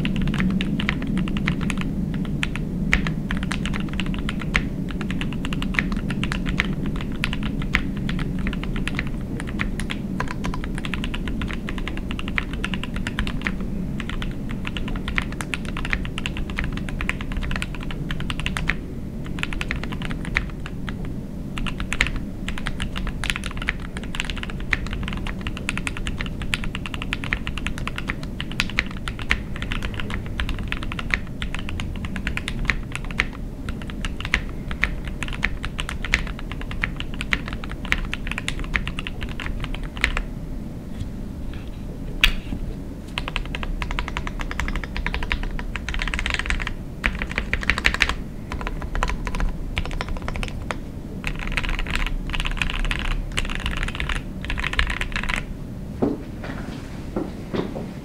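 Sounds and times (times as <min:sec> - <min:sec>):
fast typing on mechanical keyboard: 0:00.0 - 0:40.3, 0:43.2 - 0:55.5.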